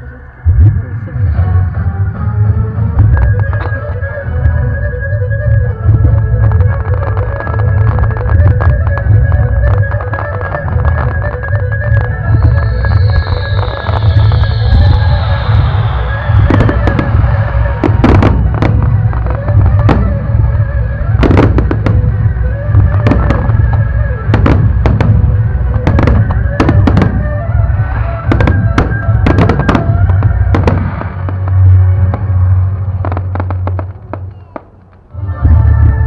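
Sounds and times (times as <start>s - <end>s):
music playing: 0.0s - 34.2s, 35.0s - 36.0s
fireworks exploding: 3.0s - 36.0s.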